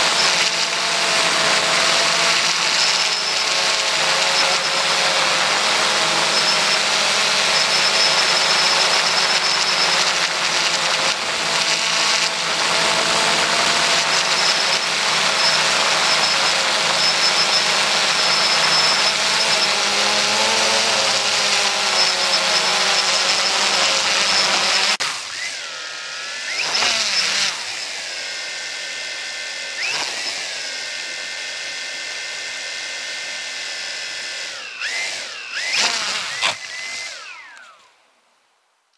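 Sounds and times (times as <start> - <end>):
drone propellers whirring: 0.0 - 38.0.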